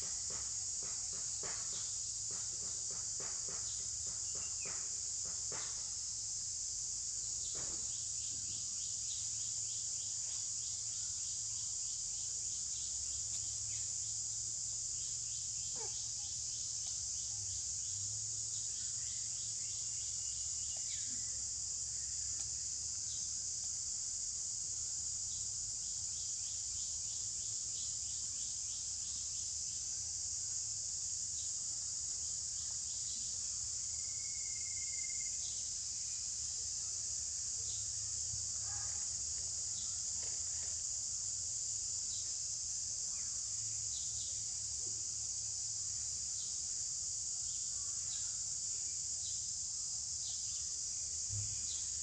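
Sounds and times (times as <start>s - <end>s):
insect chorus drone: 0.0s - 52.0s.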